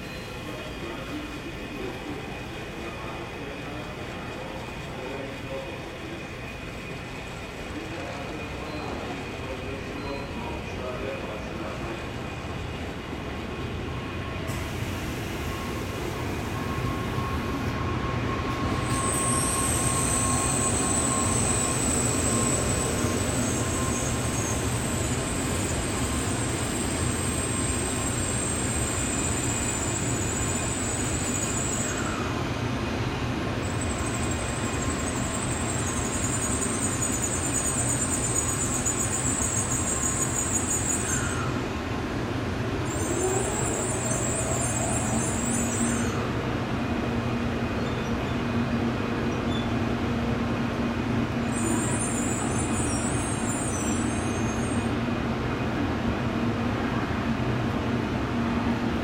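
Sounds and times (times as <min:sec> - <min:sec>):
high-pitched train squeal: 0:00.0 - 0:12.4, 0:14.0 - 0:41.8, 0:42.8 - 0:46.4, 0:47.8 - 0:48.6, 0:49.2 - 0:49.8, 0:51.4 - 0:55.1
train rumbling into station: 0:00.0 - 0:59.0.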